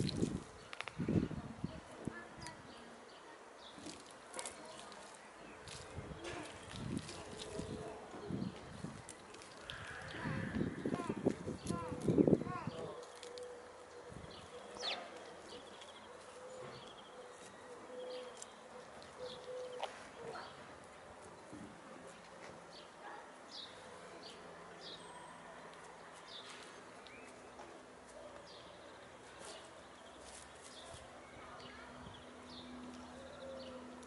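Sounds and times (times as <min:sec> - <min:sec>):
birds chirping: 0:00.0 - 0:21.8, 0:22.7 - 0:34.0.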